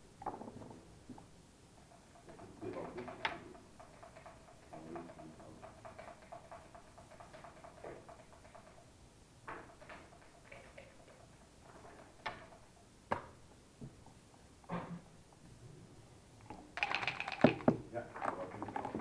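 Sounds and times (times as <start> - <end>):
backgammon checkers and dice clacking: 0.2 - 13.4, 16.4 - 19.0.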